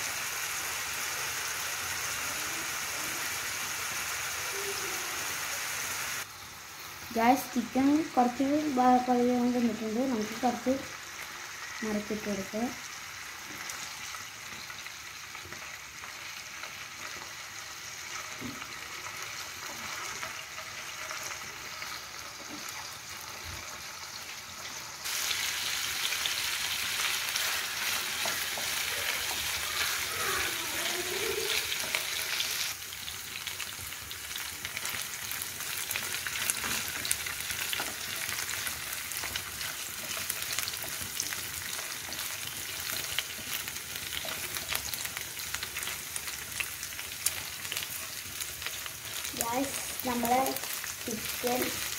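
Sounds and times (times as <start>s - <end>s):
chicken sizzling in oil: 0.0s - 51.9s.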